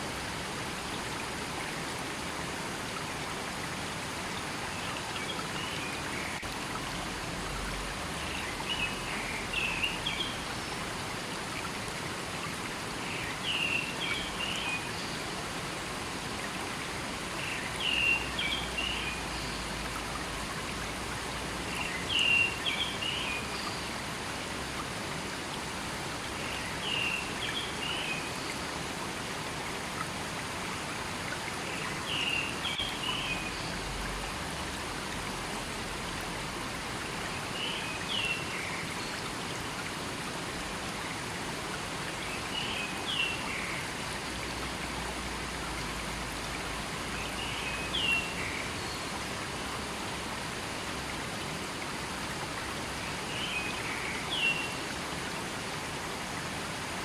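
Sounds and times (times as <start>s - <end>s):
flowing river: 0.0s - 57.0s.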